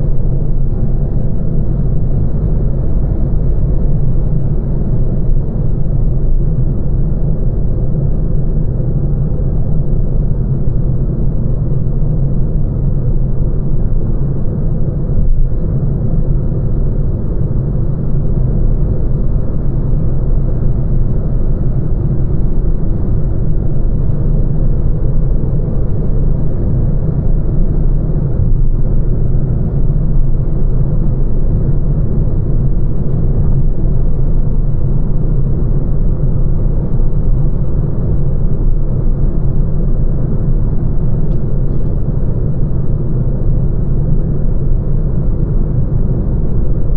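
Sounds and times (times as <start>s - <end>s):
car road noise rumble: 0.0s - 46.9s.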